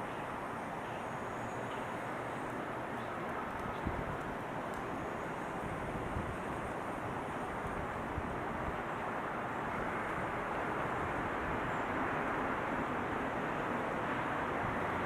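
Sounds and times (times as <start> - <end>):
road traffic rushing by: 0.0 - 15.0.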